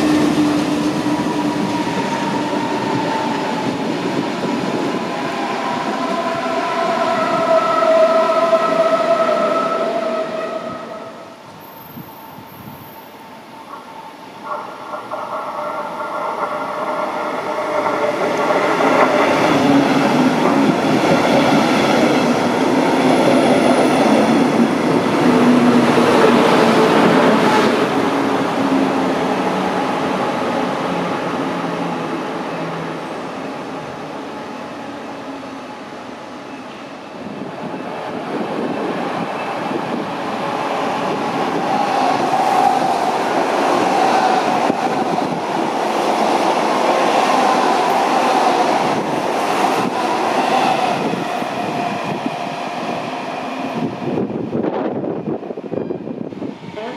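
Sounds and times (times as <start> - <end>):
electric train passing: 0.0 - 56.9.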